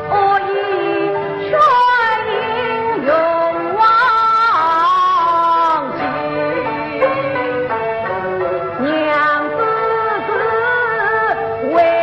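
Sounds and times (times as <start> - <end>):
opera instrumental accompaniment: 0.0 - 12.0.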